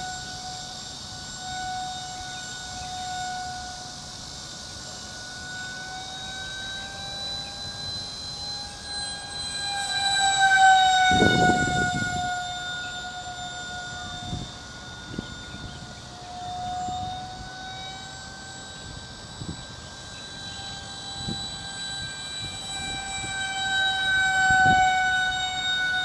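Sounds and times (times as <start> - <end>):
model airplane motor whining: 0.0 - 26.0.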